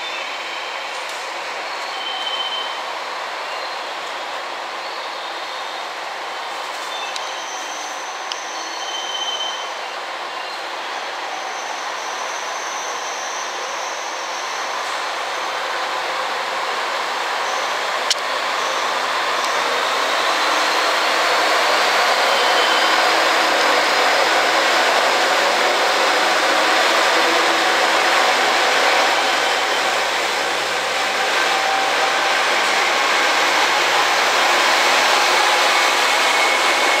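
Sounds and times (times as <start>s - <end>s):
diesel train engines: 0.0s - 37.0s.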